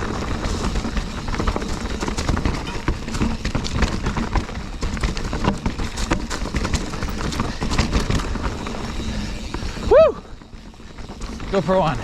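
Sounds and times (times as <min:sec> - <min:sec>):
bike frame and chain rattling: 0:00.0 - 0:12.0
tyres crunching over rocks: 0:00.0 - 0:12.0.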